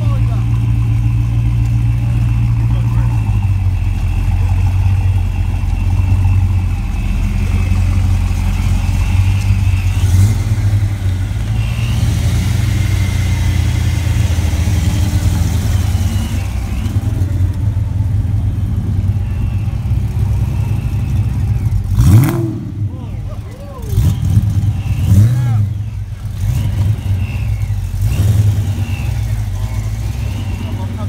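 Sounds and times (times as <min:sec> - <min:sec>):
car engines idling: 0:00.0 - 0:31.0
engine revving: 0:00.0 - 0:31.0.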